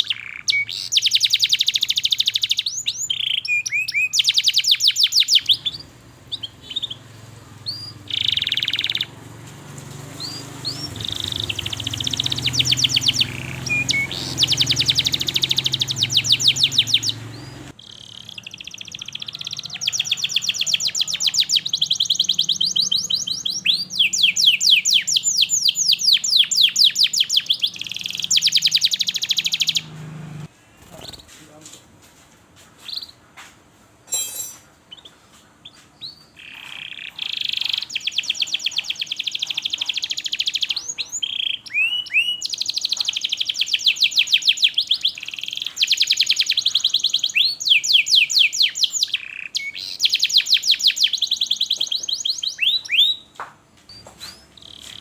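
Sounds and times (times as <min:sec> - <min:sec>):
canary singing trills: 0:00.0 - 0:31.4, 0:34.1 - 0:55.0.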